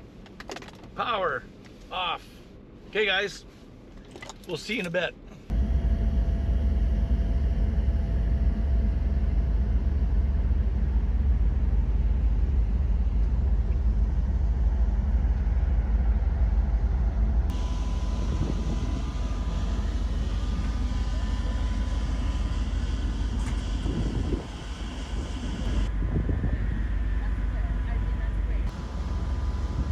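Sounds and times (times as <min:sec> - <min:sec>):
faint steady hum: 0:00.0 - 0:29.9
ship engines rumbling: 0:04.6 - 0:29.9.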